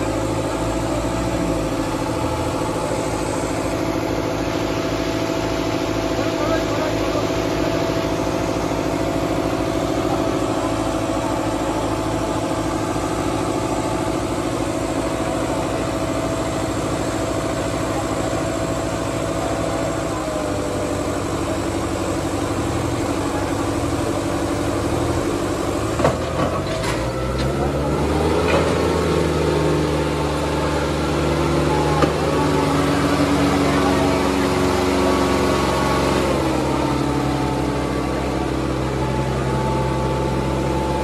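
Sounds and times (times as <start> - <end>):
tractor diesel engines running: 0.0 - 41.0.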